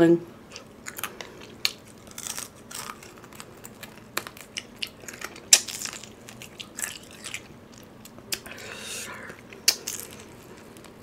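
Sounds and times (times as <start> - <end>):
crunching fried chicken: 0.5 - 11.0.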